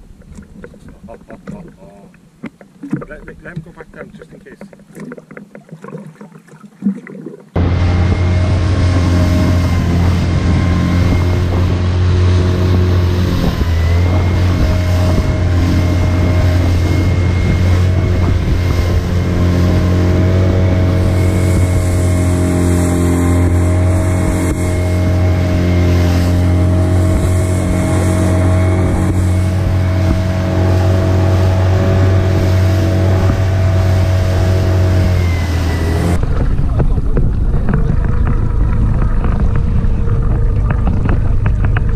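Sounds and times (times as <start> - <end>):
water rushing and spray: 0.0 - 41.9
outboard motor running: 7.5 - 41.9.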